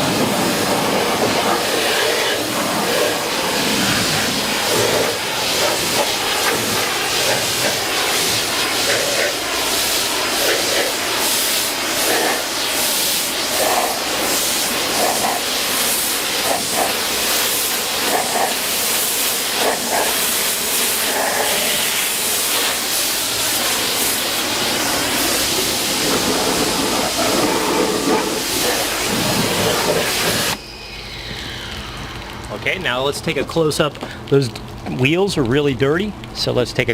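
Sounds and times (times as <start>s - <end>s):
pressure washer spraying water: 0.0s - 33.7s.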